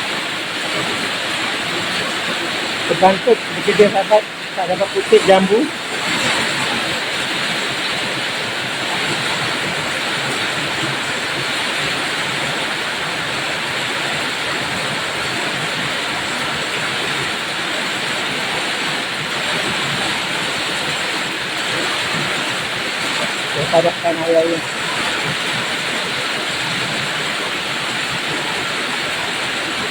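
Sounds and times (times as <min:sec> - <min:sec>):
heavy rain falling: 0:00.0 - 0:29.9.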